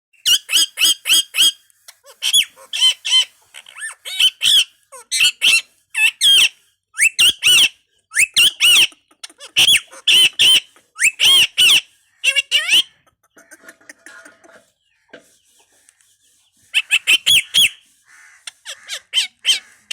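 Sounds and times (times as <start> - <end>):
parrot squawking: 0.2 - 14.7, 16.6 - 19.9.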